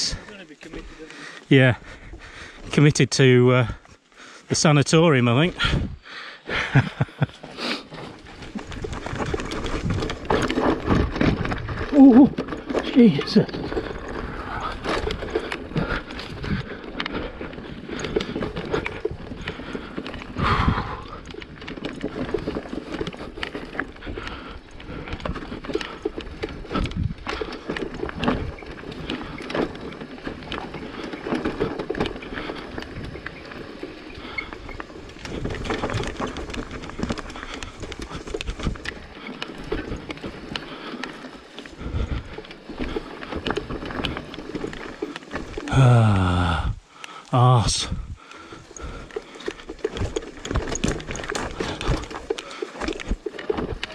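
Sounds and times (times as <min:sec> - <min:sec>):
mountain bike rattling and clattering: 0:00.0 - 0:53.9.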